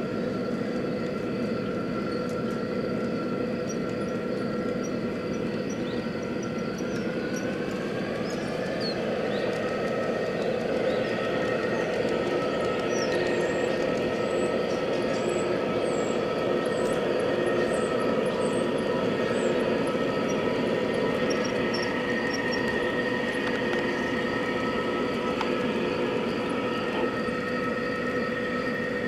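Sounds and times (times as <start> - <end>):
model locomotive diesel engine sound: 0.0 - 29.0
wheels rumbling on track: 0.0 - 29.0.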